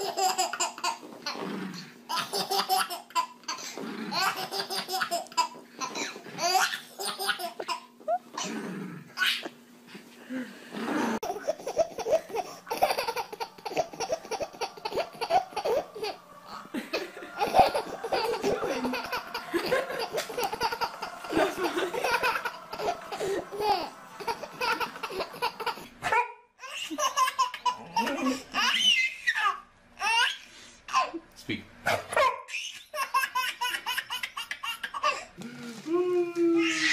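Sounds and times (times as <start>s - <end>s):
baby laughing: 0.0s - 1.4s, 2.1s - 8.5s, 9.2s - 9.6s, 11.2s - 31.2s, 32.2s - 35.3s.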